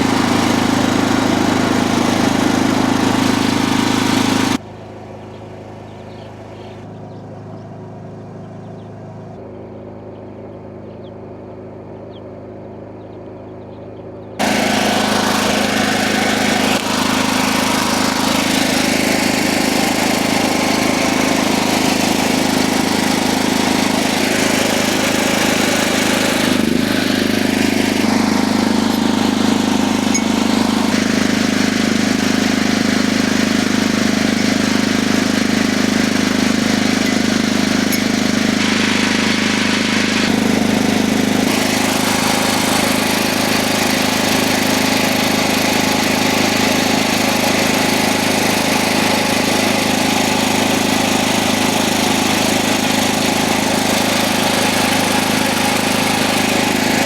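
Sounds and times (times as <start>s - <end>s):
generator engine humming: 0.0s - 57.0s.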